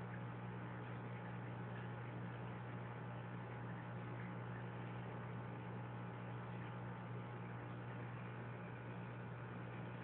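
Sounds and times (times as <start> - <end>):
aquarium pump humming: 0.0 - 10.0.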